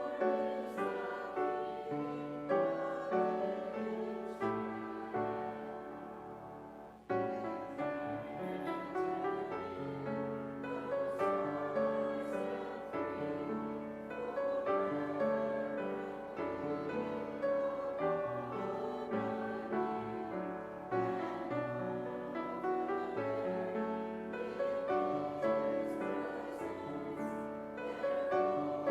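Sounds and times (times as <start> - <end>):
slow piano chords: 0.0 - 28.9.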